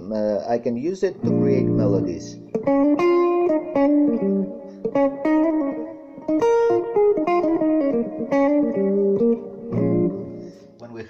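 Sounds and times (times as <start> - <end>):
electric guitar melody: 1.2 - 10.8.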